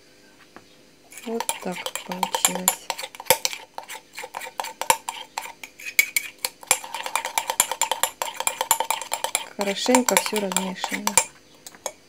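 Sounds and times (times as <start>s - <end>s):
spoon clinking in a cup: 1.2s - 12.0s.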